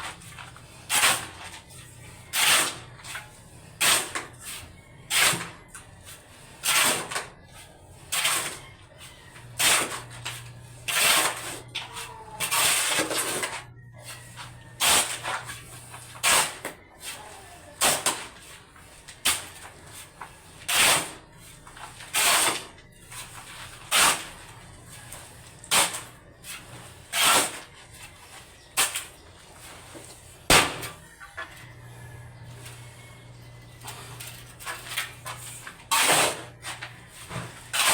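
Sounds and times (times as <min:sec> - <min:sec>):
hand tool scraping mortar: 0:00.0 - 0:31.9, 0:32.5 - 0:37.9.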